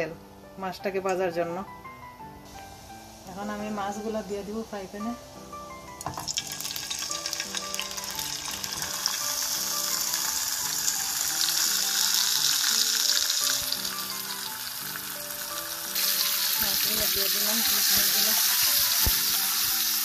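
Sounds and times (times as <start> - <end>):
soft background music: 0.0 - 20.0
fish sizzling in hot oil: 2.4 - 20.0.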